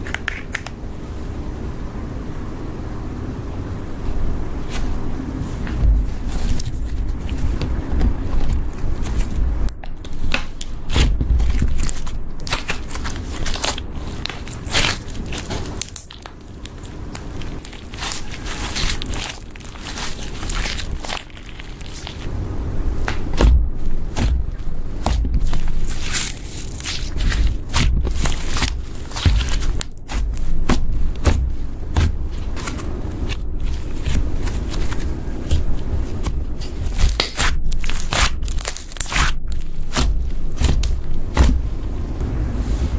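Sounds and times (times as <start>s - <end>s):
low rumble of handling: 3.4s - 42.9s
slime crackling and popping: 6.1s - 22.3s, 23.1s - 41.6s.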